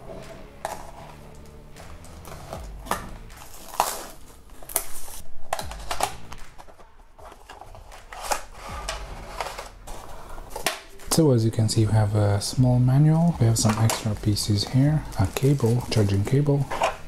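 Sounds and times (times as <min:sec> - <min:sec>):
plastic shrink-wrap crinkling: 0:02.0 - 0:11.2, 0:12.4 - 0:17.0.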